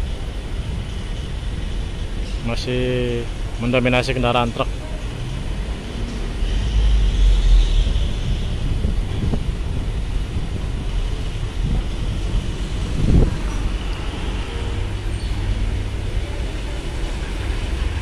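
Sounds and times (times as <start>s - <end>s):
truck engines rumbling: 0.0s - 18.0s.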